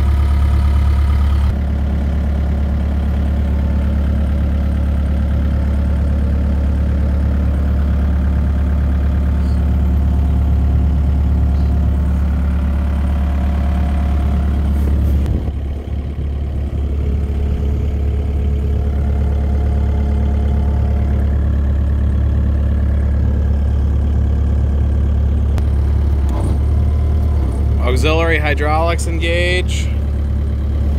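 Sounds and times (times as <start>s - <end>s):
excavator engine running: 0.0s - 30.9s.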